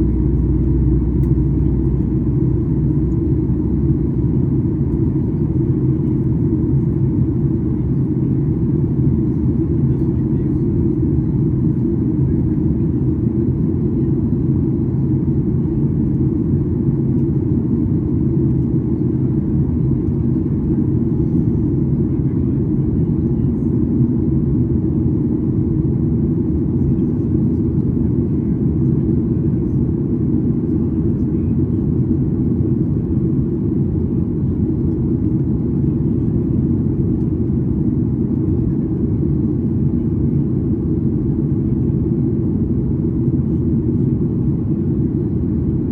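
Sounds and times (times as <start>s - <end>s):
airplane cabin drone: 0.0s - 45.9s.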